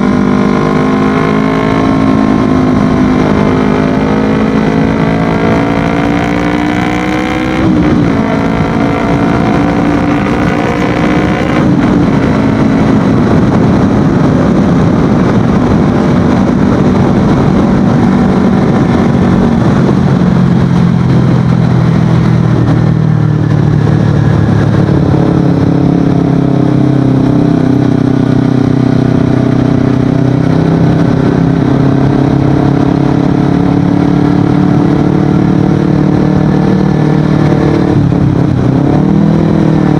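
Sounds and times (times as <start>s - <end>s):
motorcycle engine accelerating: 0.0s - 39.9s
wind noise on microphone: 0.0s - 39.9s.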